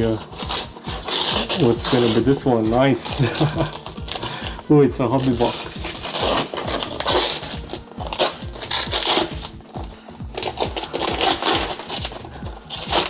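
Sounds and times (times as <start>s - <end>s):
background music with steady beat: 0.0s - 13.0s
gift wrapping rustling: 0.0s - 13.0s.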